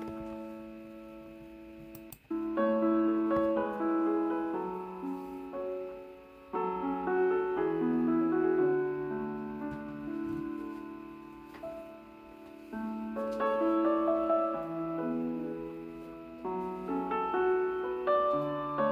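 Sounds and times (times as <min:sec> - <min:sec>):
gentle piano melody: 0:00.0 - 0:18.9.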